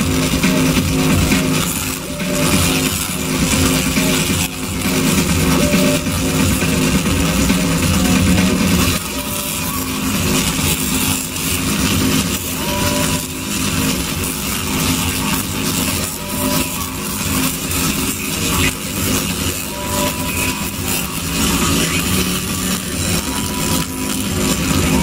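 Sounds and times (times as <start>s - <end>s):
tesla coil electric buzz: 0.0s - 25.0s.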